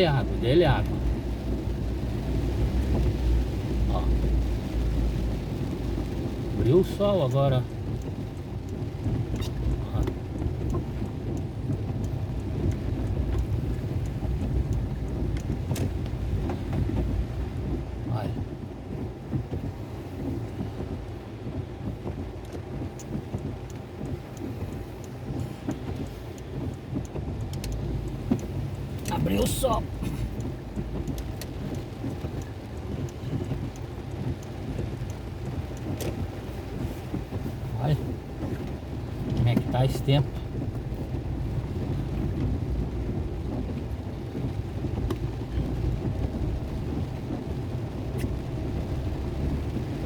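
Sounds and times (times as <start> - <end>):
drips ticking: 0.0 - 50.0
low rumble: 0.0 - 50.0
steady rain: 0.0 - 50.0.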